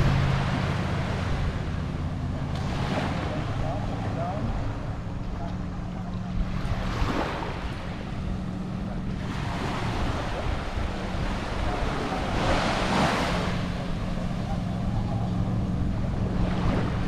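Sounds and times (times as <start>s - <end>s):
small waves washing on sand: 0.0s - 17.0s
steady low hum: 0.0s - 17.0s
wind rumble on microphone: 0.0s - 17.0s.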